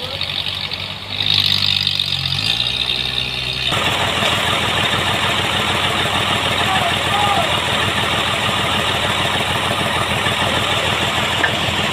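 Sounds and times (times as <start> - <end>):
sawmill machinery running: 0.0 - 11.9.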